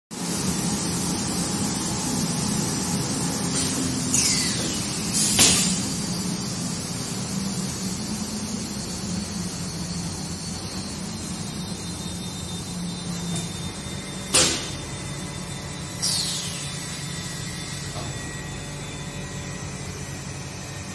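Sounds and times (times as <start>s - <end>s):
motor hum with high whine: 0.1s - 20.9s.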